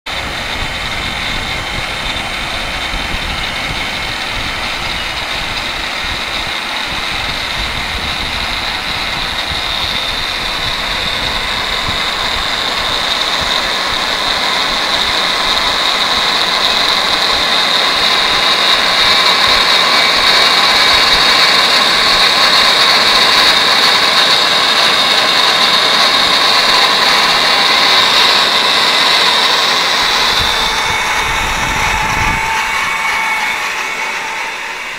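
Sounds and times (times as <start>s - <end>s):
drill boring into metal: 0.1s - 34.9s
drilling machine motor whining: 0.1s - 34.9s.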